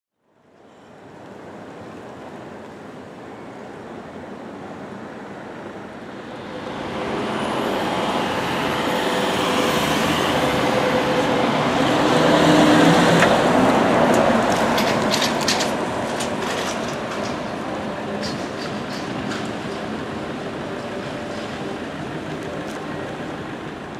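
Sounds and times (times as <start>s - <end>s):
tyre and road noise: 1.4s - 23.9s.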